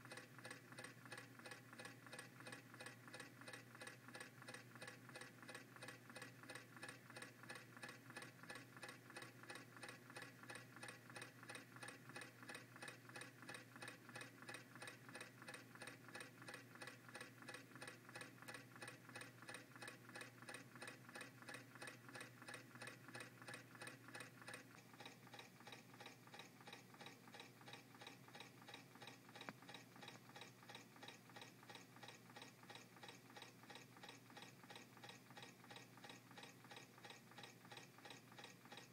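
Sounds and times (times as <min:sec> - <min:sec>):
small engine fast ticking: 0:00.0 - 0:38.9.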